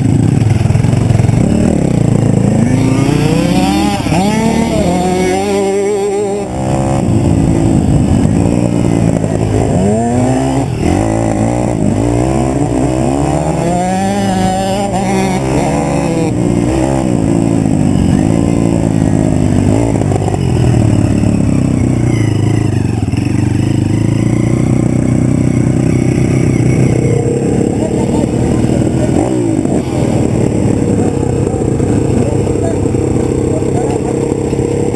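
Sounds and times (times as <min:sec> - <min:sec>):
pit bike engines revving: 0:00.0 - 0:34.9.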